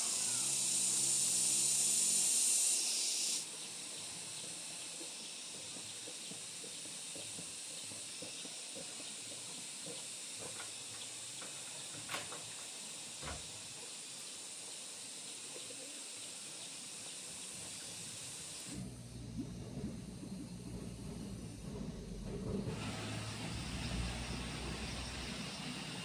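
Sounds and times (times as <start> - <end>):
high-pitched hiss: 0.0 - 19.0, 19.6 - 26.0.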